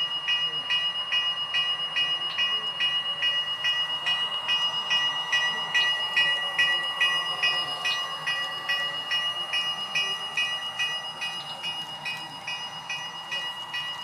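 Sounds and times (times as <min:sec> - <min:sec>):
bell ringing: 0:00.0 - 0:14.0
model train running: 0:00.0 - 0:14.0.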